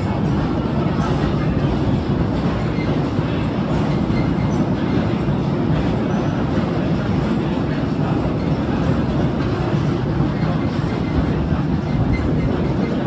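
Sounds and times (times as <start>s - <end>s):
train carriage rumbling and rattling: 0.0s - 13.0s.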